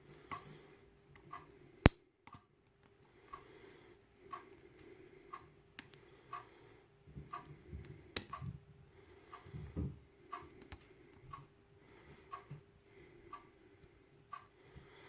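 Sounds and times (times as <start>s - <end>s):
faint clock ticks: 0.0s - 15.0s.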